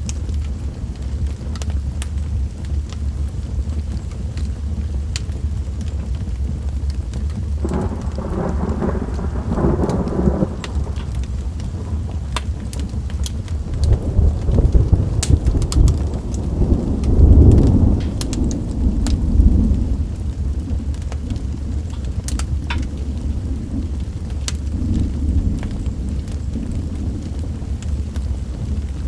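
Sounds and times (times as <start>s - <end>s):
deep rumble: 0.0s - 29.0s
fire crackling and popping: 0.0s - 29.0s
rain: 0.0s - 29.0s.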